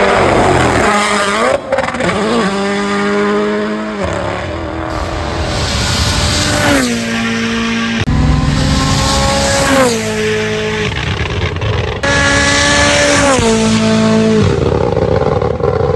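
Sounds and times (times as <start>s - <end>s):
rally car engines revving: 0.0s - 15.9s.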